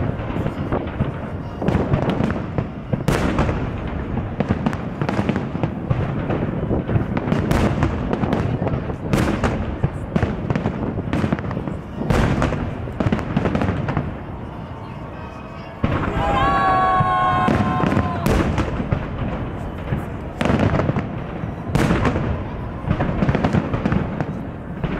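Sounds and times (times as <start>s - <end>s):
fireworks bursting and crackling: 0.0s - 24.9s.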